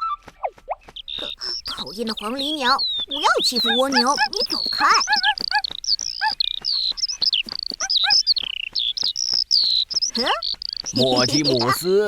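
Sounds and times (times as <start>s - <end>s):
cartoon bird chirping: 0.0s - 12.0s.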